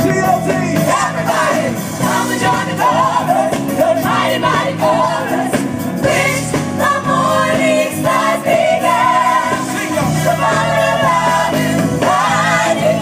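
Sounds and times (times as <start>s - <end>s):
gospel choir singing: 0.0s - 13.0s
instrumental backing: 0.0s - 13.0s.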